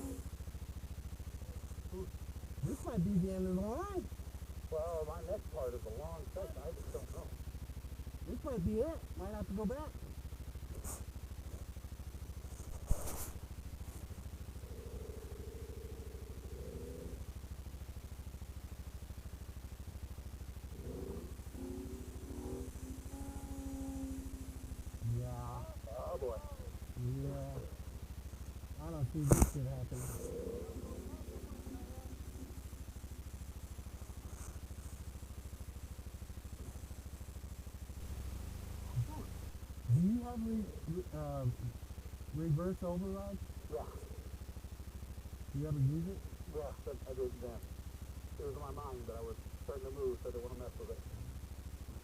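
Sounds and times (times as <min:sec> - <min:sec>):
atv engine idling: 0:00.0 - 0:12.7, 0:13.4 - 0:52.0.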